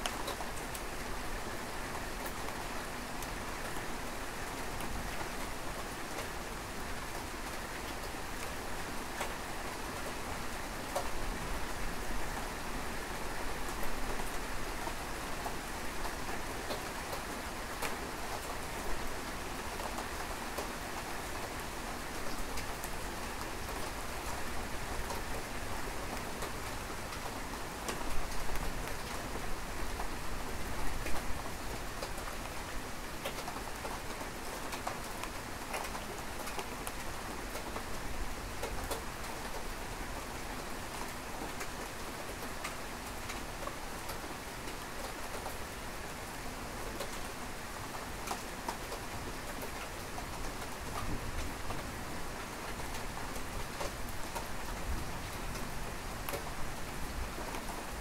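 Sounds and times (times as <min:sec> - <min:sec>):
raindrops ticking on a surface: 0:00.0 - 0:58.0
steady rain: 0:00.0 - 0:58.0.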